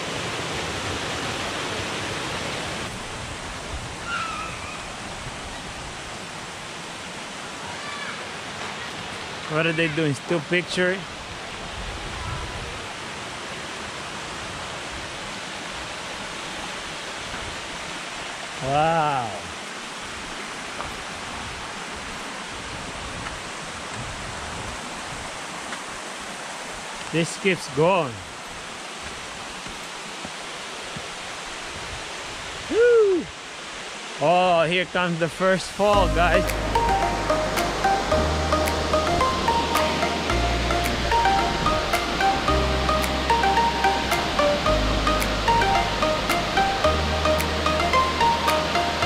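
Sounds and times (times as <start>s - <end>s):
water rushing over rocks: 0.0s - 49.0s.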